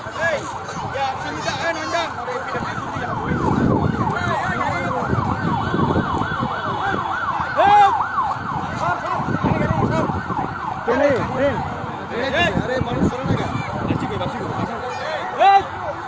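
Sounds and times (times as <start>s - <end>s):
lower siren sweeping: 0.0s - 14.8s
murmur of crowd and traffic: 0.0s - 16.0s
sirens yelping: 0.0s - 16.0s.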